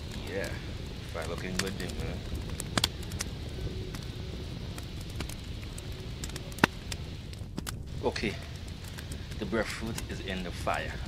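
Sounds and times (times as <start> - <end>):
low rumble: 0.0 - 11.0
wood fire crackling and popping: 0.0 - 11.0.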